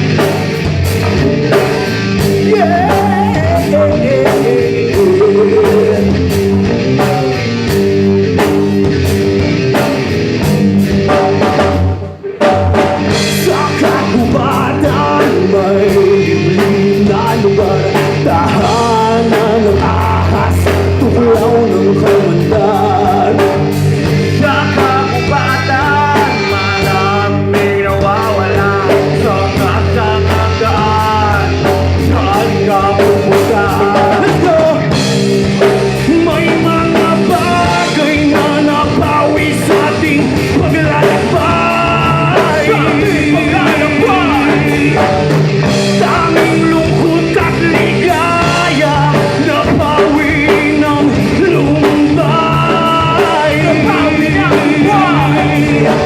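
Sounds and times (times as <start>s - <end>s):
person singing: 0.0s - 7.6s, 11.0s - 56.0s
bass guitar: 0.0s - 56.0s
drums: 0.0s - 56.0s
electric guitars: 0.0s - 56.0s.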